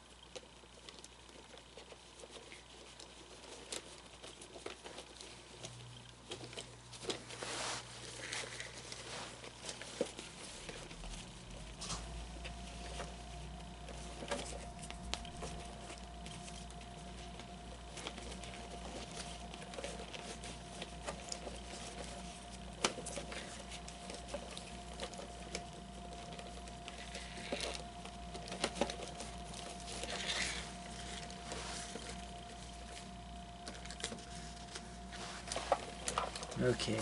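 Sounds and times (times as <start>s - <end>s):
faint steady hum: 0.0s - 37.0s
cloth rustling: 2.0s - 37.0s.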